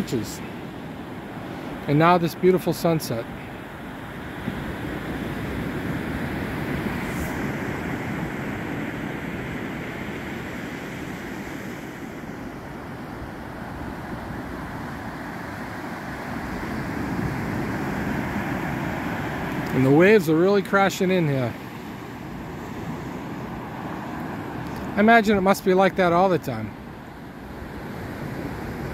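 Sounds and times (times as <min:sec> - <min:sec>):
ocean waves breaking on beach: 0:00.0 - 0:28.9.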